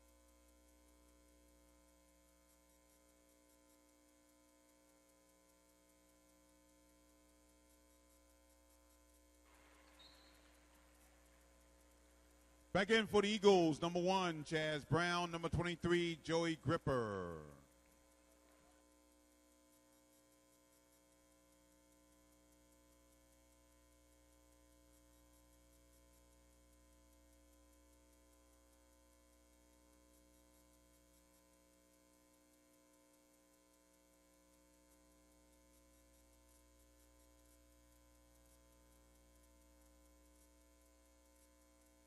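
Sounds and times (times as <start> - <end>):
faint electrical hum: 0.0 - 42.0.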